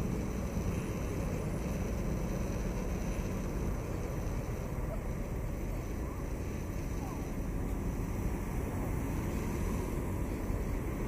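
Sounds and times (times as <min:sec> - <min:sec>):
faint high steady tone: 0:00.0 - 0:11.0
low outdoor rumble: 0:00.0 - 0:11.0.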